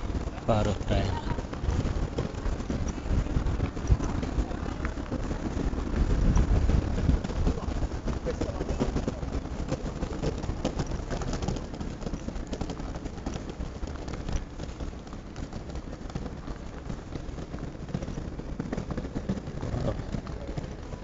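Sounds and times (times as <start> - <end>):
rumble of passing traffic: 0.0 - 21.0
scattered clicks and knocks: 0.0 - 21.0.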